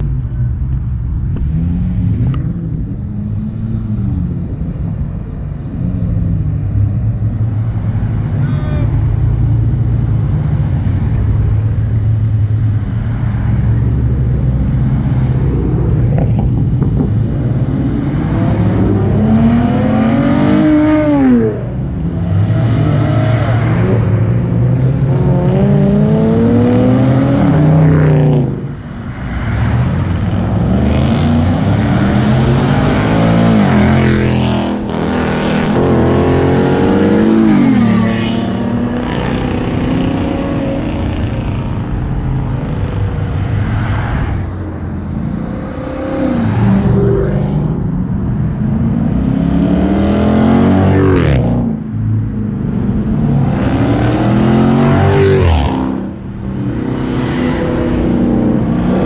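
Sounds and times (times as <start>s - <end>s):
cars accelerating past: 0.0s - 59.0s
low traffic rumble: 0.0s - 59.0s.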